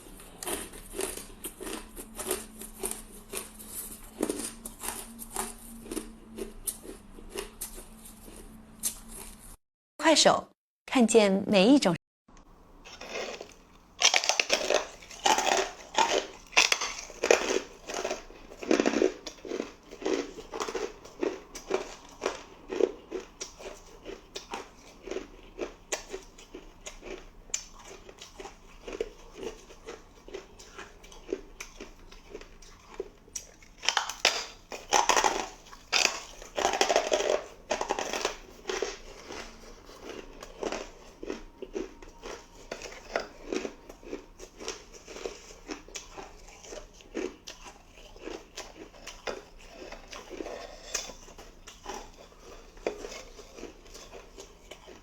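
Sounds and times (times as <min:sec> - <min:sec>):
ice crunching being chewed: 0:00.0 - 0:09.4, 0:12.8 - 0:55.0.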